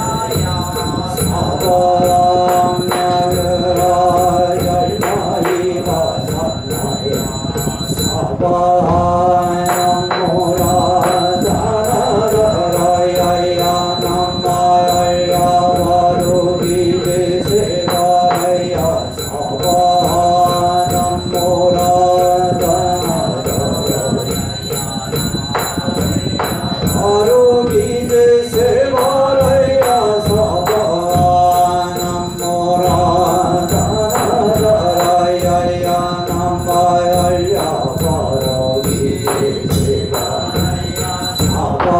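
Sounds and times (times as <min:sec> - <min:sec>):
group chanting in unison: 0:00.0 - 0:41.9
steady percussion beat: 0:00.0 - 0:41.9.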